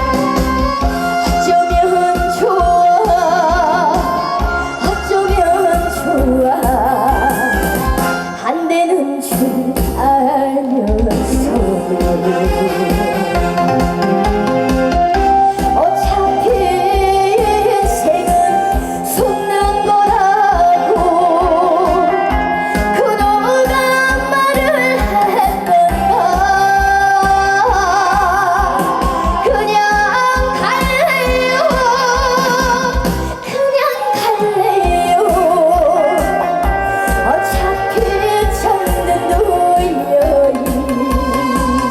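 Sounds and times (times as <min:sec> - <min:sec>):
woman singing with vibrato: 0:00.0 - 0:14.0, 0:15.4 - 0:41.9
backing music with steady beat: 0:00.0 - 0:41.9.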